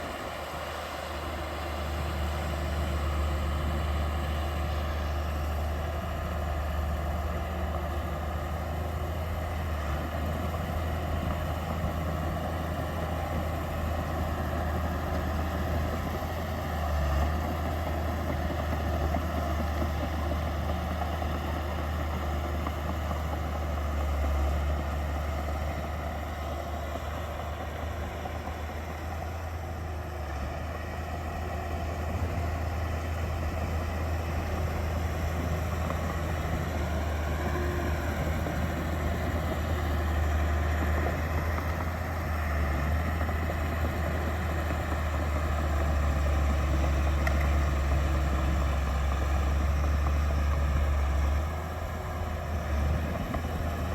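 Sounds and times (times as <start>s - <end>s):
diesel engine deep hum: 0.0s - 53.9s.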